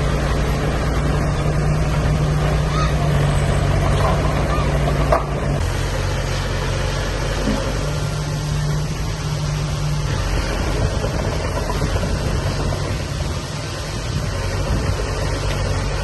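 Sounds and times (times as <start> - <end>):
heavy machinery diesel engine running: 0.0 - 16.0.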